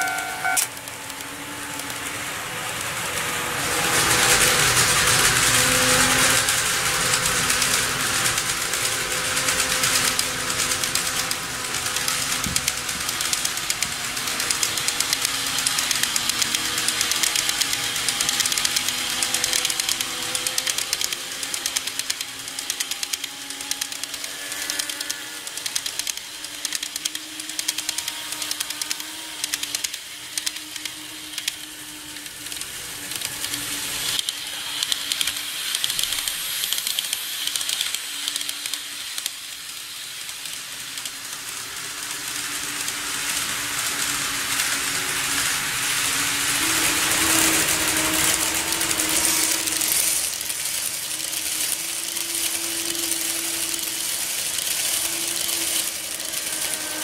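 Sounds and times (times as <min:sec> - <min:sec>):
model train motor hum: 0:00.0 - 0:57.0
model train wheels clattering: 0:00.0 - 0:57.0.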